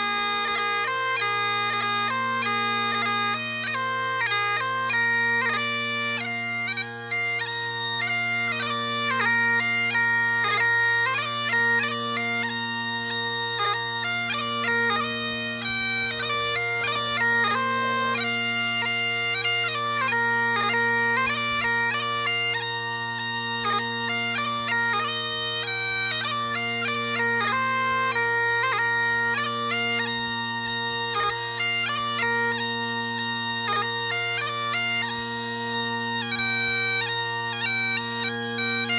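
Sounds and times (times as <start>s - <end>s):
bagpipes playing: 0.0s - 38.9s.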